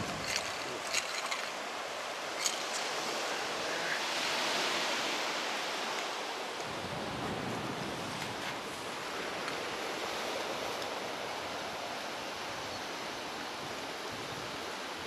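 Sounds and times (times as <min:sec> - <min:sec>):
surf washing on a beach: 0:00.0 - 0:15.0.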